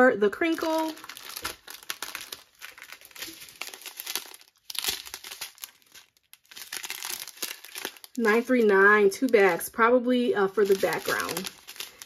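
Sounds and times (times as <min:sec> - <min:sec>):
plastic crinkling: 0:00.4 - 0:09.8, 0:10.4 - 0:12.0.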